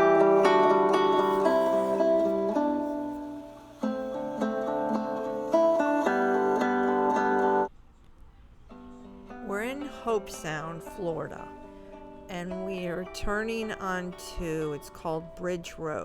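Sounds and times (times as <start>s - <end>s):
plucked acoustic guitar melody: 0.0s - 7.7s, 8.7s - 16.0s.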